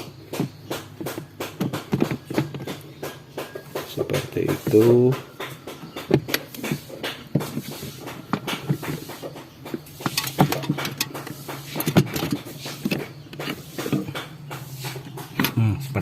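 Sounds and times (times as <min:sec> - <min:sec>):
plastic parts clicking and knocking: 0:00.0 - 0:15.9.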